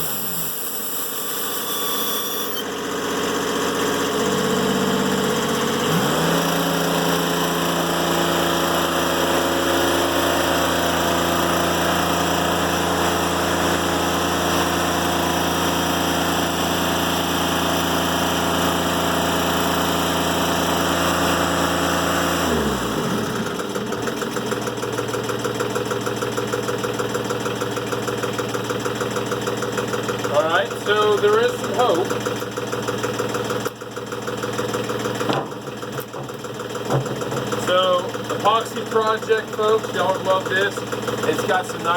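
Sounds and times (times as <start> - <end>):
sawmill engine running under load: 0.0 - 41.9.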